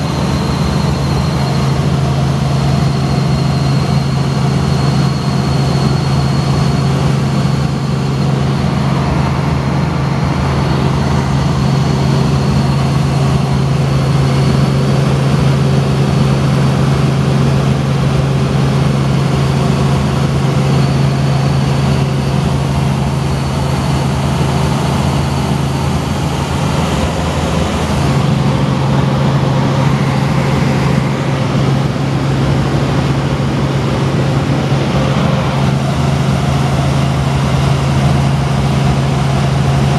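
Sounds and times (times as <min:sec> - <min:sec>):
helicopter low drone: 0:00.0 - 0:39.9
high whine: 0:00.0 - 0:39.9.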